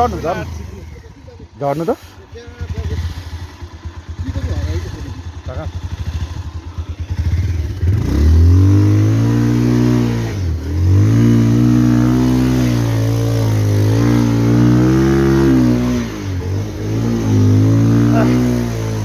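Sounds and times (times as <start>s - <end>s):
motorcycle engine revving hard: 0.0s - 19.0s.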